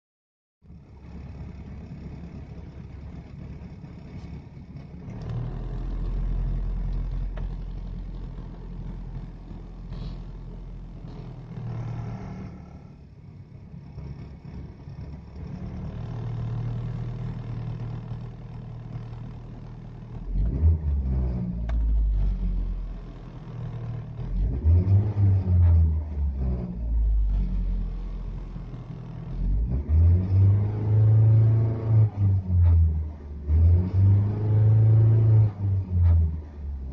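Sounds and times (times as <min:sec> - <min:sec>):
car engine running rough: 0:00.6 - 0:36.9.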